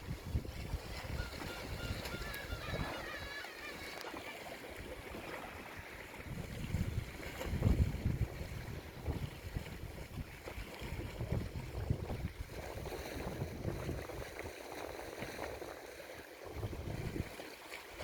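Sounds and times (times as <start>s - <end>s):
wind gusting on microphone: 0.0s - 4.0s, 4.7s - 15.6s, 16.4s - 17.3s
sea water washing: 0.0s - 18.0s.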